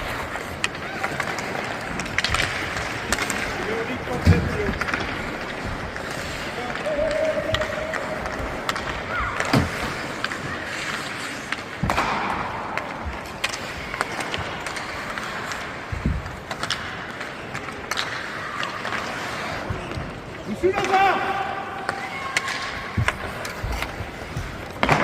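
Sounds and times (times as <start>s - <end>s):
hockey sticks and puck clacking: 0.0s - 25.0s
skates scraping ice: 0.0s - 25.0s.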